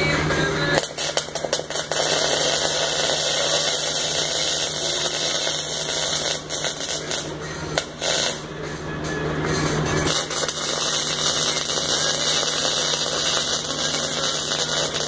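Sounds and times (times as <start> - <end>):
welding arc hissing: 0.8 - 8.5, 10.1 - 15.0.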